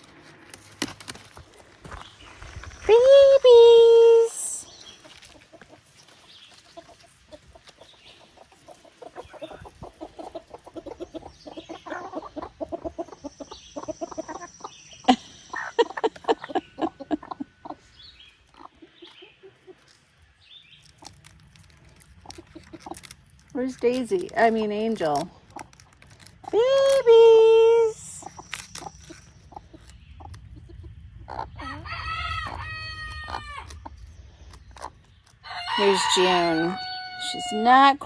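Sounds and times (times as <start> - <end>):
chickens clucking: 1.4 - 38.0.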